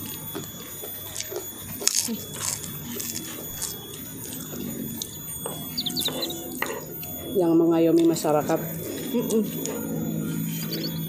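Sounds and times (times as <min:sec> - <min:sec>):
crunching and chewing crackers: 0:00.0 - 0:11.0.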